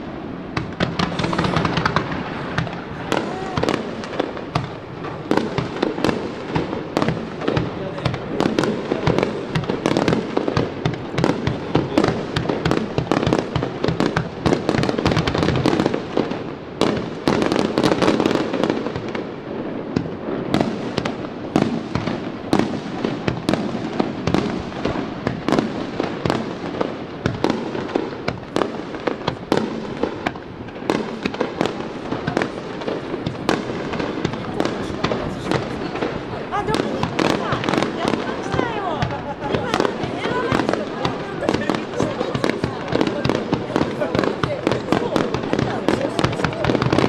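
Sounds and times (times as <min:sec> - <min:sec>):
fireworks bangs and crackles: 0:00.0 - 0:47.0
rumble of fireworks reports: 0:00.0 - 0:47.0.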